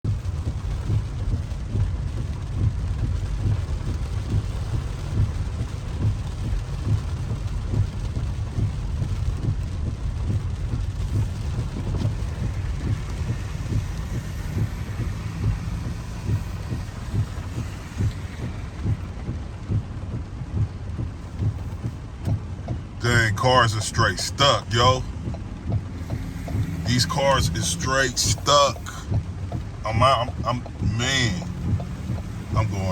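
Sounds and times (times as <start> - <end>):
low rumble of moving car: 0.0 - 32.9
rain pattering on car roof: 0.0 - 32.9.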